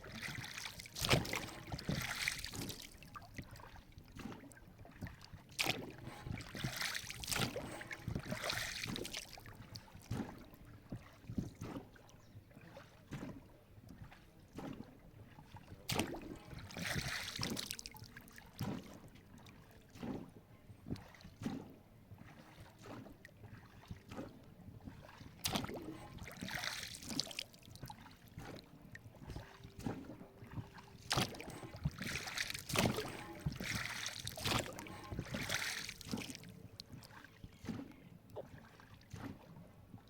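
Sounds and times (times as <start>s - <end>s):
water splashing and sloshing: 0.0s - 40.0s.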